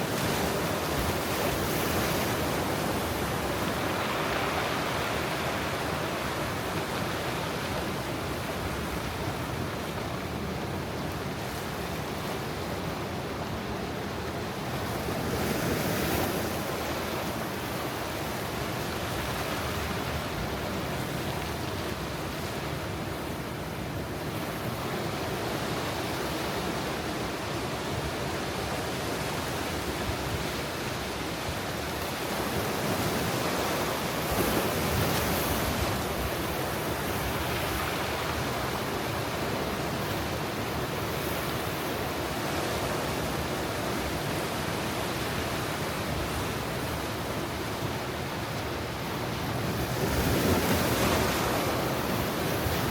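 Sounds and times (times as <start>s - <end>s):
surf washing onto rocks: 0.0s - 52.9s.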